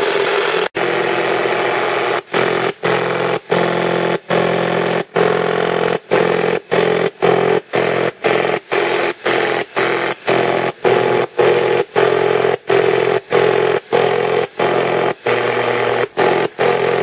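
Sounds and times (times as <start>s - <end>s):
radio interference buzz: 0.0s - 17.0s.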